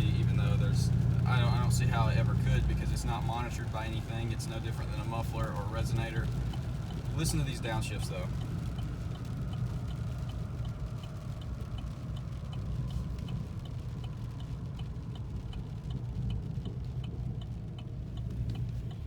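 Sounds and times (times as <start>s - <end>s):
light ticking: 0.0s - 19.0s
truck engine rumble: 0.0s - 19.0s.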